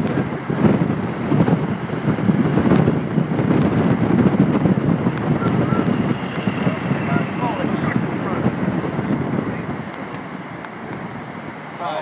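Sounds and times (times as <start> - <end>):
wind on microphone: 0.0 - 11.6
vehicle rumble: 0.0 - 12.0.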